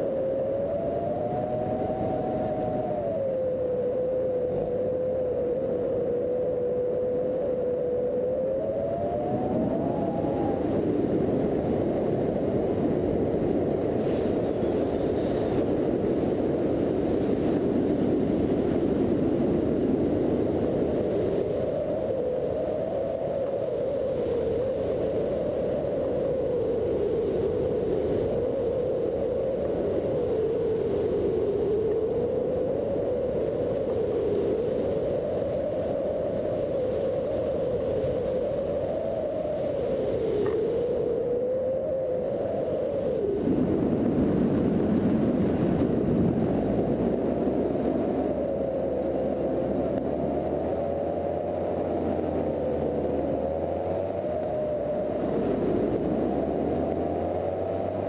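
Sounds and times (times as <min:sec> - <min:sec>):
engine and propeller droning: 0:00.0 - 0:58.0.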